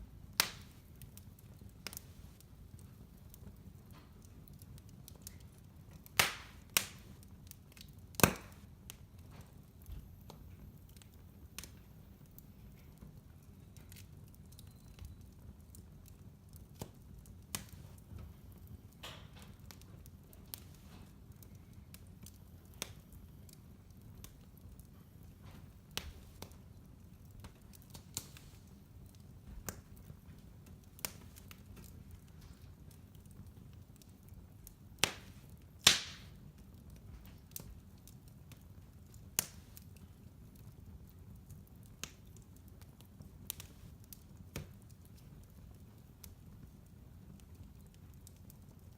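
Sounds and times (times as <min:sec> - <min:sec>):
fireplace fire crackling: 0:00.0 - 0:48.9.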